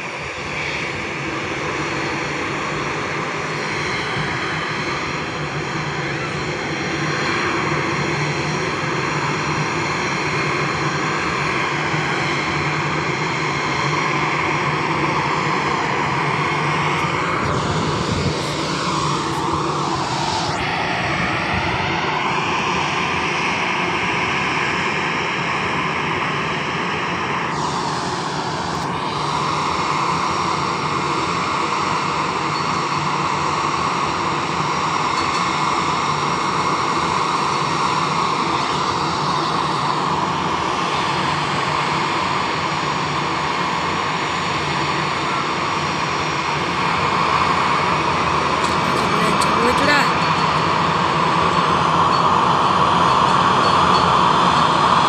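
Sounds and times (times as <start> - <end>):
jet engines roaring and whining: 0.0 - 51.0.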